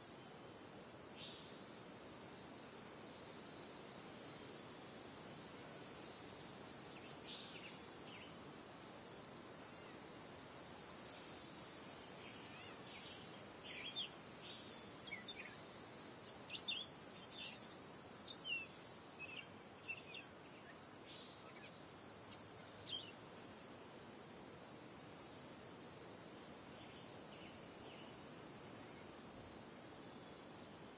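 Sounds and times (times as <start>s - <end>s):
high insect drone: 0.0s - 30.9s.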